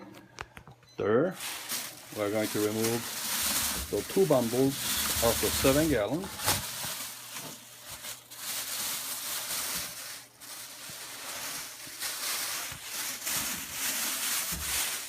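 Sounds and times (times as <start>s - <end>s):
plastic wrapping rustling: 1.3s - 15.0s.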